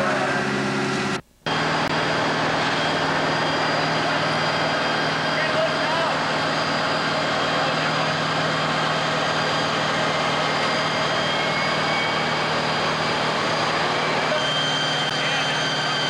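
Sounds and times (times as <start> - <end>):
fire engines driving pumps: 0.0 - 16.0.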